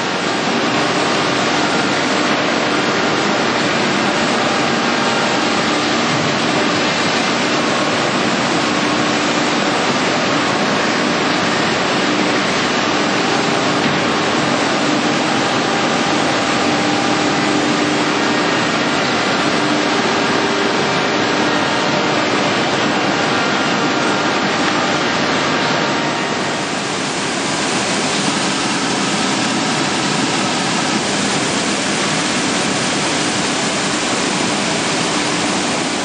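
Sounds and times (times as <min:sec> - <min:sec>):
loud machinery noise: 0:00.0 - 0:36.0.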